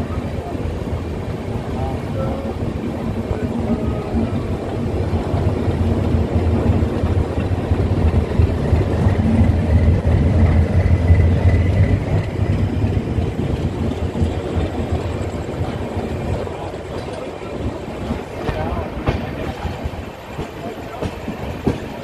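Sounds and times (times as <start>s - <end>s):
diesel locomotive engine drone: 0.0s - 22.0s
train rolling noise: 0.0s - 22.0s.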